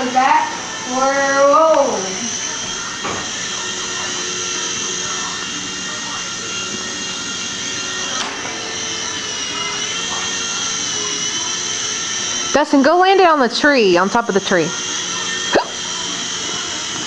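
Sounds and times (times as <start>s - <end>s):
toy helicopter motor whining: 0.0s - 17.0s.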